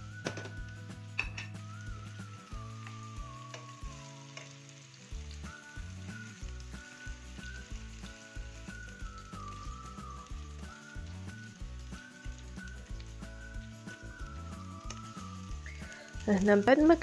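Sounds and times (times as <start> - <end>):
background music: 0.0 - 17.0
meatballs sizzling in oil: 0.0 - 17.0.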